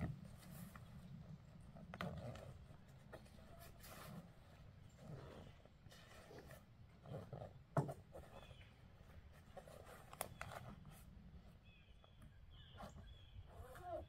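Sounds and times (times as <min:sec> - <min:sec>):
camping gear knocking and rustling: 0:00.0 - 0:14.0.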